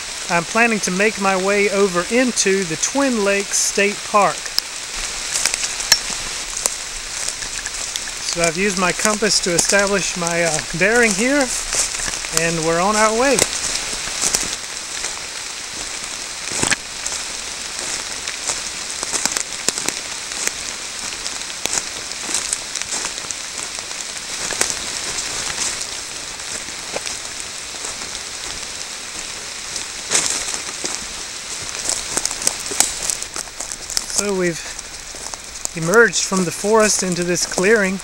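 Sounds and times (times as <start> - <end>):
steady rain in forest: 0.0 - 38.0.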